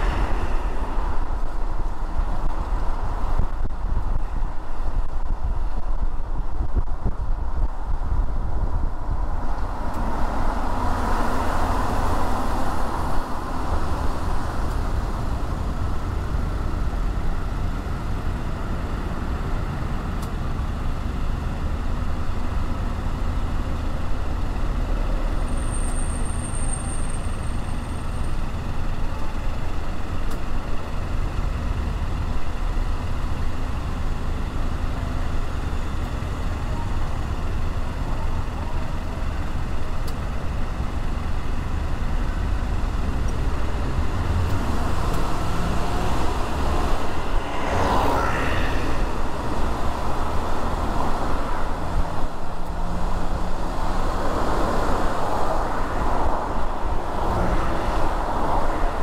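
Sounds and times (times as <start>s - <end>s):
car road noise rumble: 0.0s - 59.0s.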